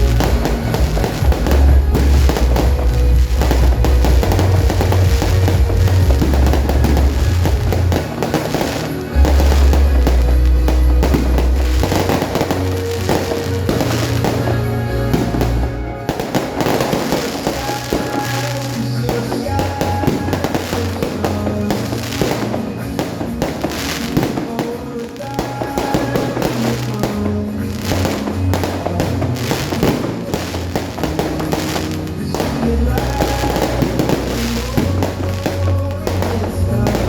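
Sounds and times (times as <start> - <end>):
fireworks bangs and crackles: 0.0 - 37.0
music with bass line: 0.0 - 37.0.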